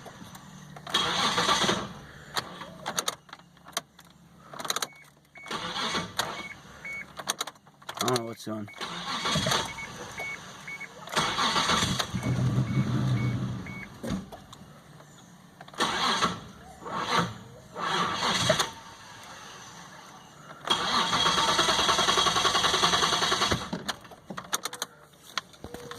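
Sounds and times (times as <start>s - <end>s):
engine cranking by starter: 0.0s - 25.9s.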